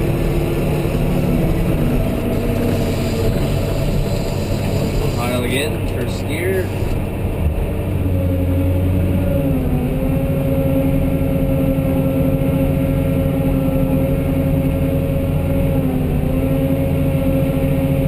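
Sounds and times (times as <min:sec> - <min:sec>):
diesel engine under load: 0:00.0 - 0:18.0.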